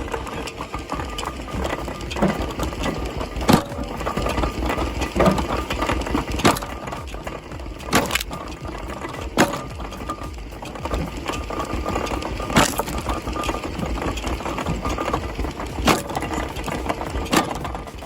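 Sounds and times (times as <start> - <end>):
machine engine running: 0.0 - 18.0.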